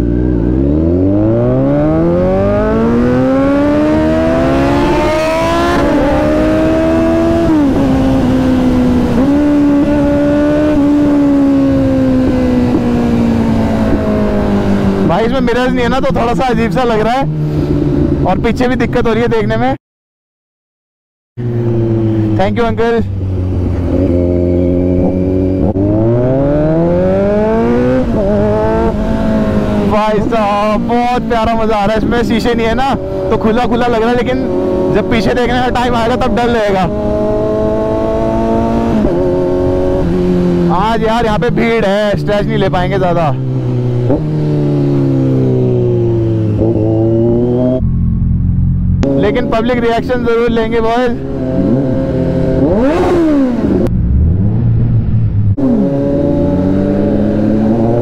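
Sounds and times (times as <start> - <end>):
motorcycle engine accelerating: 0.0 - 19.7, 21.4 - 58.0.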